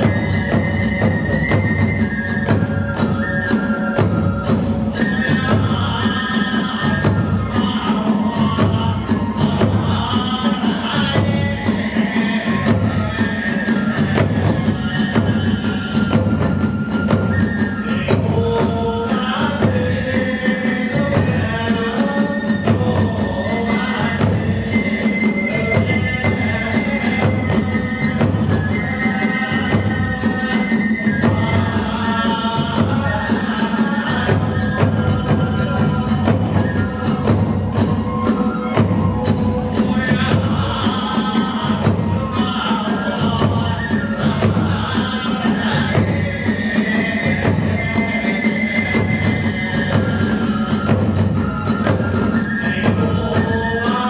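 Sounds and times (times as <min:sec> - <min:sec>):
drums beating: 0:00.0 - 0:54.0.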